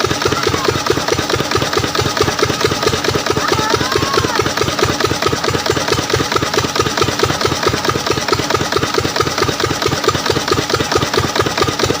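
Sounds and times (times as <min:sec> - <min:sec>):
diesel pump engine running: 0:00.0 - 0:12.0.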